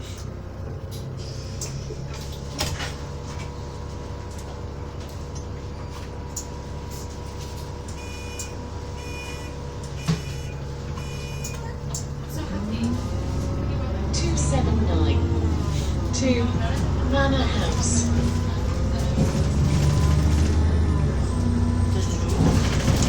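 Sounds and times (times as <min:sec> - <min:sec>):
bus engine running with whine: 0:00.0 - 0:23.0.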